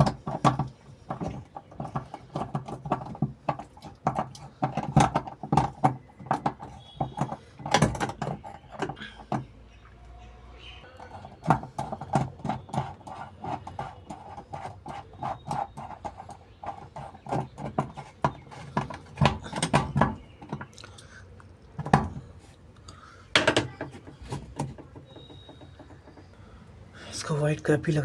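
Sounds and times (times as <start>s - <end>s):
plastic parts clicking and tapping: 0.0s - 9.5s, 11.0s - 21.0s, 23.3s - 26.4s.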